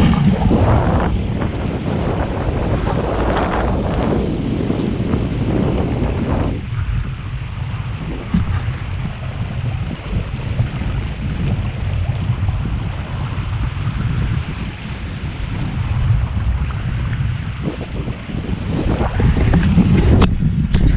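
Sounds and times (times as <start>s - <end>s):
water rushing along hull: 0.0s - 20.9s
wind noise on microphone: 0.0s - 20.9s.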